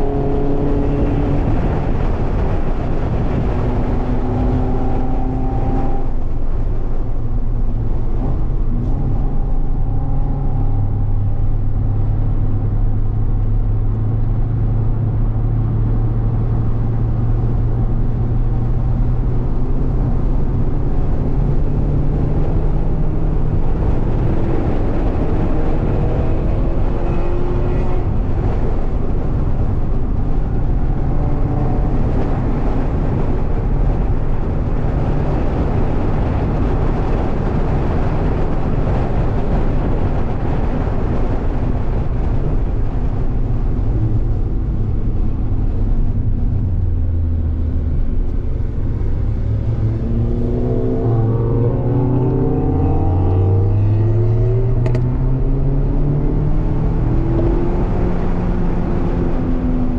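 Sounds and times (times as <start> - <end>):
car engine pulling hard: 0.0 - 59.9
road and wind noise: 0.0 - 59.9.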